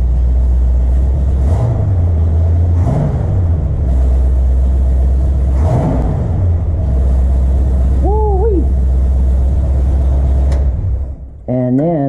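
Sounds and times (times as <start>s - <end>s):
car engine idling: 0.0s - 12.0s
engine throttle blips: 0.0s - 12.0s.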